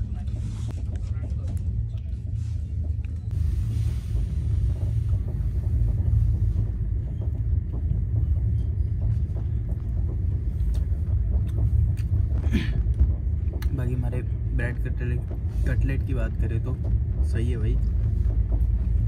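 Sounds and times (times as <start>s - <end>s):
moving train rumble: 0.0s - 19.0s.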